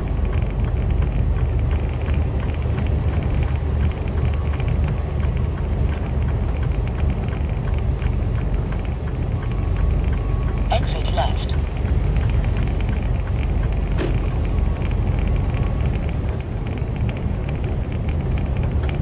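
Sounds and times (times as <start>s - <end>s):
lorry engine drone: 0.0s - 19.0s.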